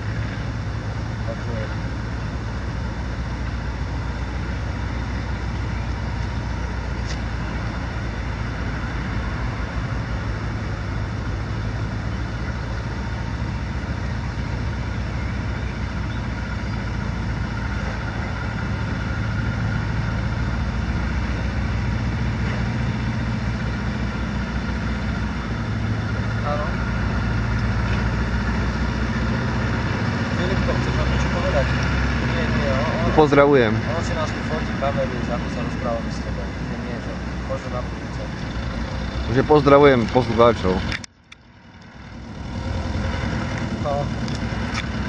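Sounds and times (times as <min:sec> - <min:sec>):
low engine-like hum: 0:00.0 - 0:45.0.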